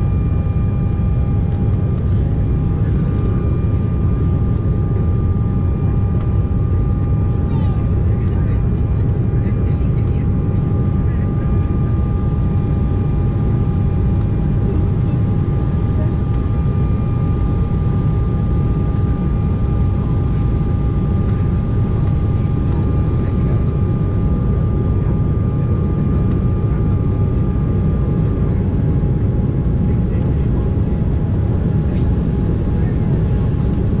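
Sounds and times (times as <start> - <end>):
jet engines humming: 0.0 - 34.0.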